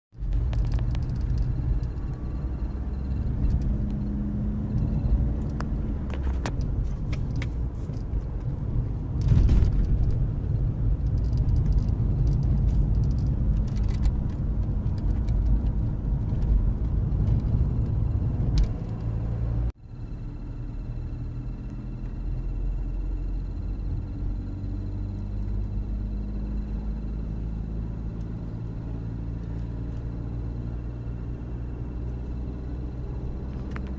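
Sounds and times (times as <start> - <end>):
car low rumble: 0.1 - 33.9.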